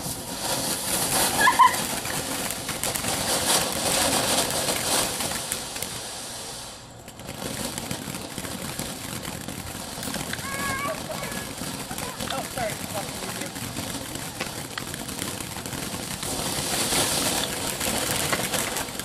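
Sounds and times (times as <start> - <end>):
fireworks crackling and fizzing: 0.0 - 19.0.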